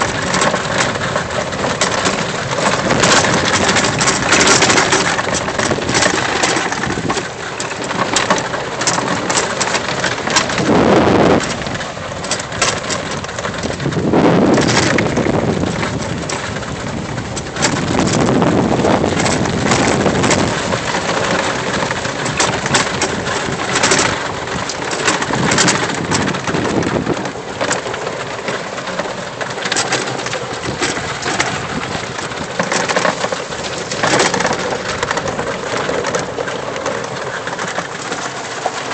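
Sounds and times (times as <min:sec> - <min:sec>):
golf cart rumbling: 0:00.0 - 0:38.9
loose items rattling and knocking: 0:00.0 - 0:38.9.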